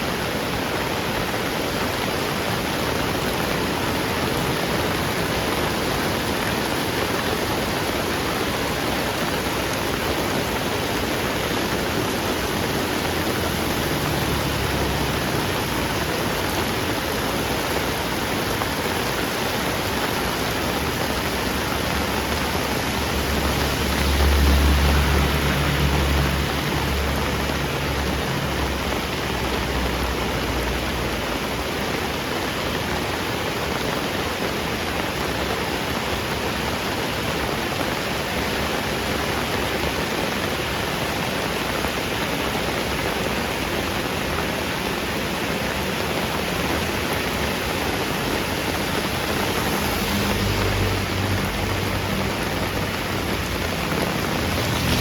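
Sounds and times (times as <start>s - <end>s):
heavy rain on a street: 0.0s - 55.0s.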